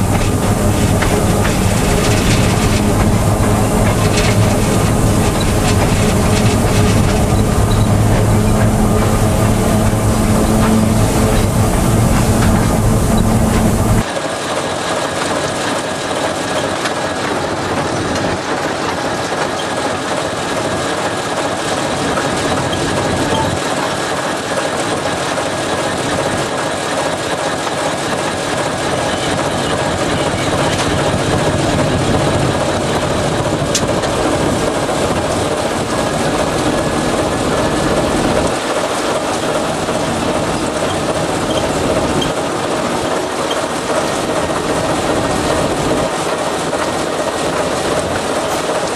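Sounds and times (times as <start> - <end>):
diesel engine noise: 0.0 - 48.9
train wheels on rails: 0.0 - 48.9.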